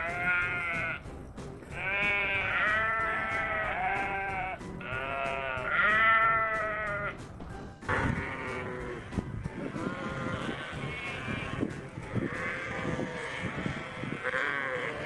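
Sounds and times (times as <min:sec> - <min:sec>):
sheep bleating: 0:00.0 - 0:01.0, 0:01.7 - 0:07.2, 0:07.9 - 0:15.0.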